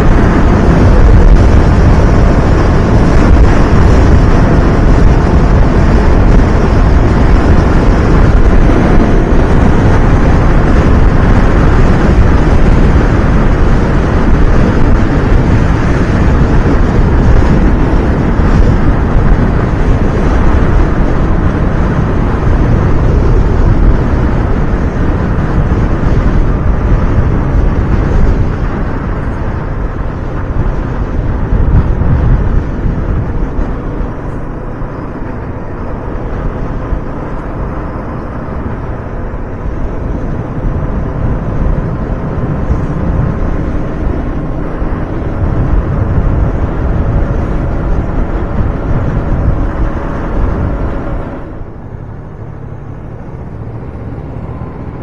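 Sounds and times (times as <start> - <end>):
motorcycle engine: 0.0 - 55.0
road noise: 0.0 - 55.0
wind buffeting microphone: 0.0 - 55.0.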